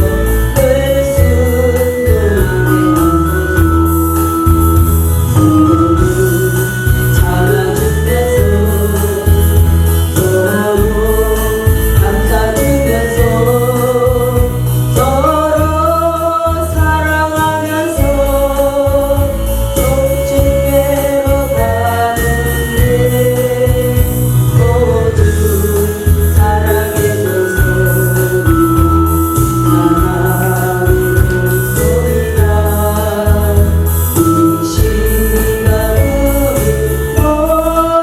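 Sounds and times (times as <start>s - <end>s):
instrumental accompaniment with bass: 0.0s - 38.0s
woman singing: 0.0s - 38.0s.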